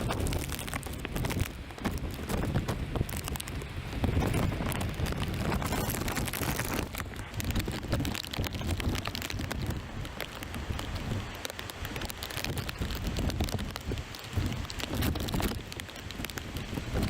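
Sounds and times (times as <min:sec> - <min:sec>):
rain hissing and pattering: 0:00.0 - 0:17.0
wind gusting over microphone: 0:00.0 - 0:17.0.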